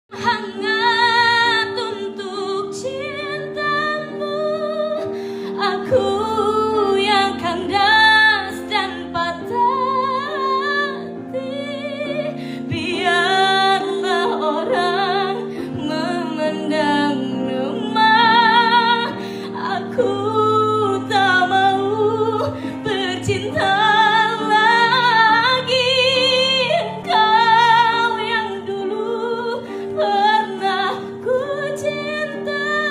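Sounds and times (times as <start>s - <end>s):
woman singing with vibrato: 0.1s - 32.9s.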